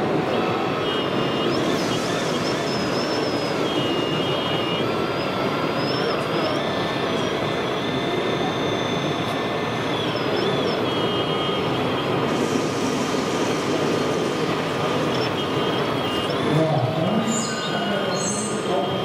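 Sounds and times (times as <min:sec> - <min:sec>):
hydraulic pump whine: 0:00.3 - 0:19.0.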